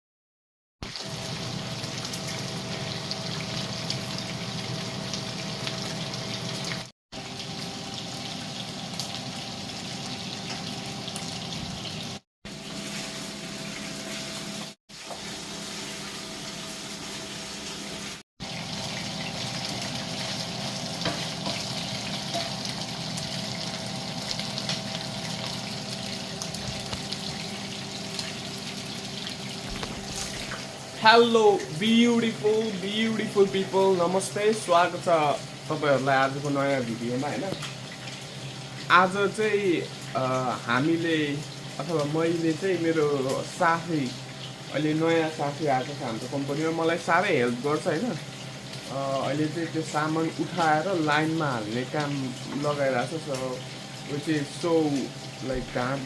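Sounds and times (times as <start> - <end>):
hissing of food frying: 0.8 - 56.0.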